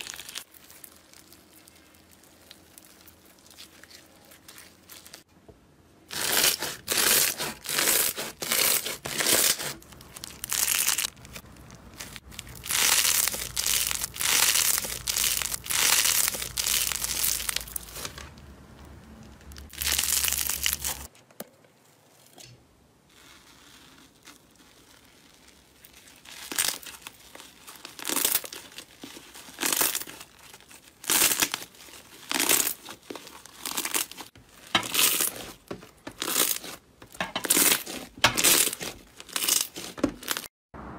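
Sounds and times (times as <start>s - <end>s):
slime crackling and popping: 0.0s - 5.3s, 6.1s - 18.3s, 19.2s - 21.1s, 23.1s - 40.5s.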